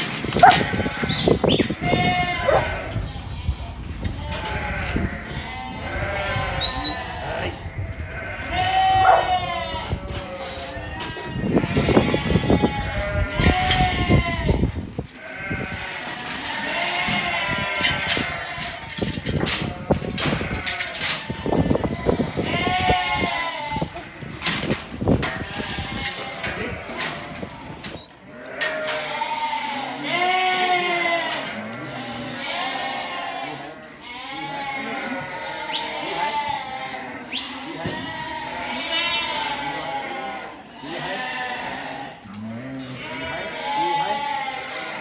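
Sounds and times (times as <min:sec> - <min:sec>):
sheep bleating: 0:00.4 - 0:24.5, 0:25.3 - 0:45.0.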